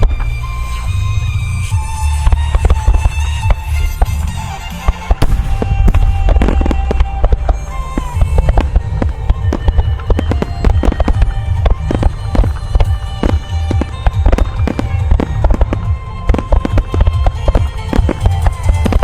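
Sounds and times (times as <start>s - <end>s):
fireworks bursting: 0.0s - 19.0s
music over loudspeakers: 0.0s - 19.0s.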